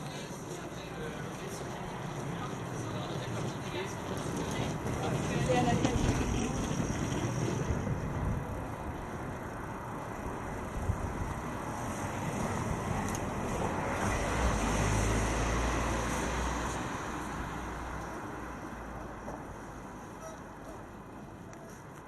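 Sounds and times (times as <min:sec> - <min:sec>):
bicycle road and wind noise: 0:00.0 - 0:22.0
motor vehicle low rumble: 0:00.1 - 0:20.1.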